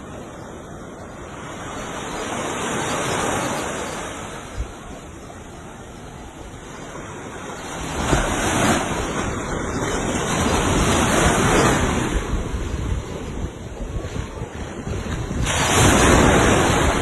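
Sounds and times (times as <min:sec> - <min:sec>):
waves breaking on a beach: 0:00.0 - 0:17.0
wind rumble on microphone: 0:01.0 - 0:17.0.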